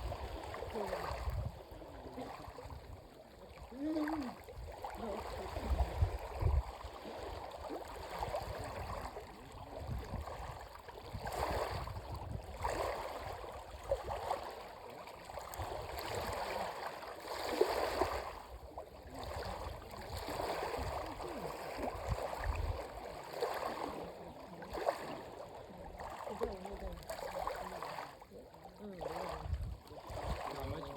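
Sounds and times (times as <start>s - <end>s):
water sloshing and lapping: 0.0s - 30.9s.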